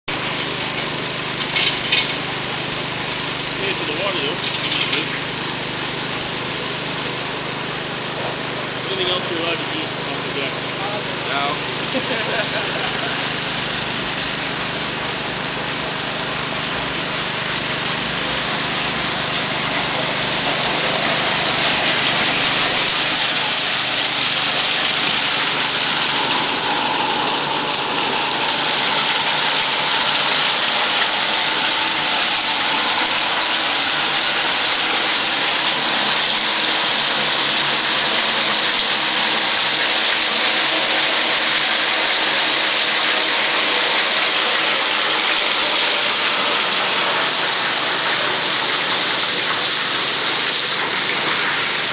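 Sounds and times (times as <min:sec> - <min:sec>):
engine running: 0:00.0 - 0:51.9
water gushing through hose: 0:00.1 - 0:51.9.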